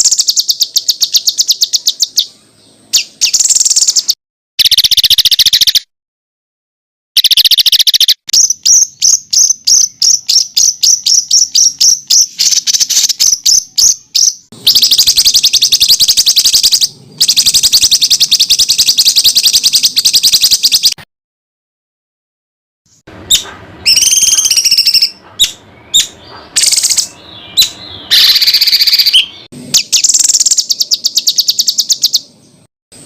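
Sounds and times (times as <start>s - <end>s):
songbird trilling: 0.0s - 5.8s, 7.2s - 21.0s, 23.3s - 32.6s.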